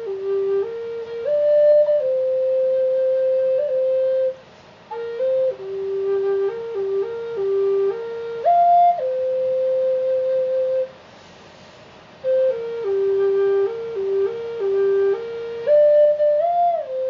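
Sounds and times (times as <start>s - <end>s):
flute melody: 0.0s - 11.0s, 12.2s - 17.0s.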